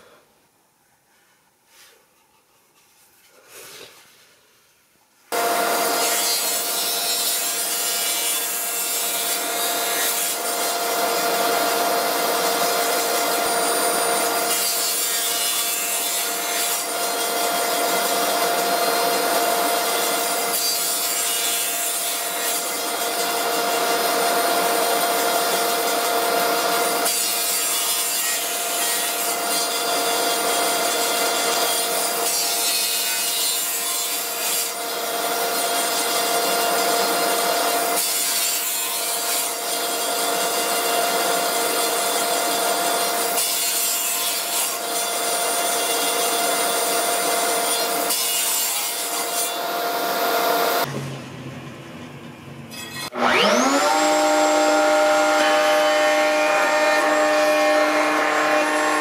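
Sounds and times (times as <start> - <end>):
saw cutting wood: 5.3 - 51.0, 52.7 - 59.0
table saw whine: 5.3 - 59.0.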